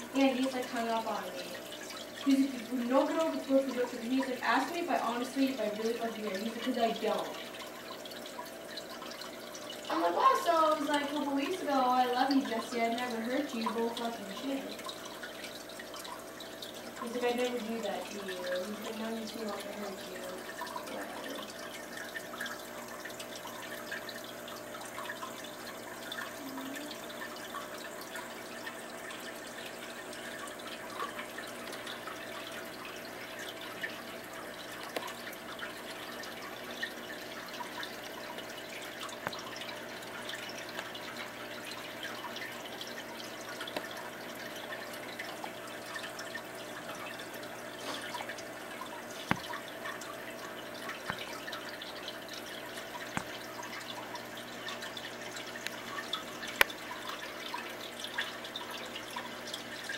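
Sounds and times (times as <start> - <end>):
aquarium water trickling: 0.0 - 59.9
faint steady hum: 0.0 - 59.9.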